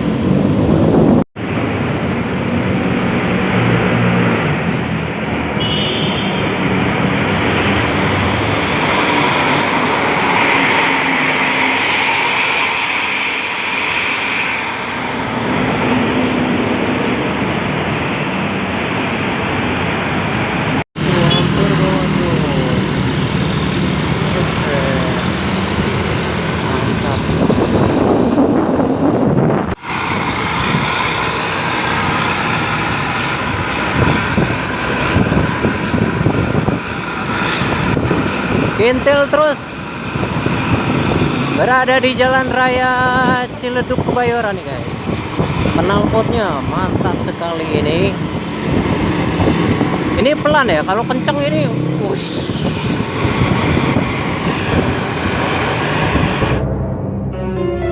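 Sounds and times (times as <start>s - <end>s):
wind and road noise: 0.0s - 57.7s
bus diesel engine with loud exhaust: 0.0s - 57.9s.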